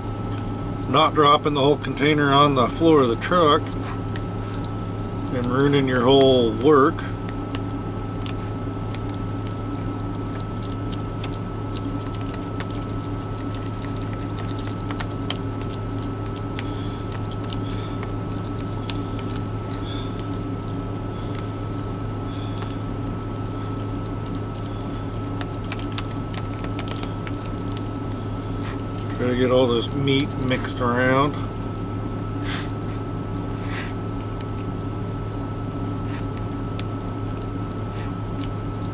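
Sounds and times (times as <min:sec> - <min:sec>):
steady low hum: 0:00.0 - 0:38.9
stirring wet food in a container: 0:00.0 - 0:38.9.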